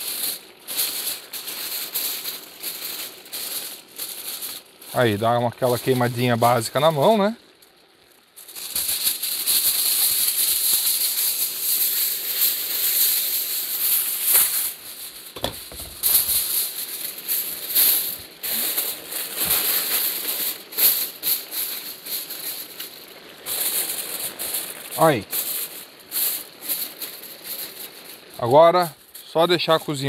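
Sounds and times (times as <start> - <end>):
aluminium foil crinkling: 0.0 - 30.0.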